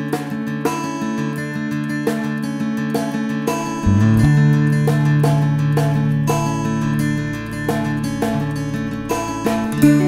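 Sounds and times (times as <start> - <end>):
acoustic guitar picking: 0.0 - 10.0.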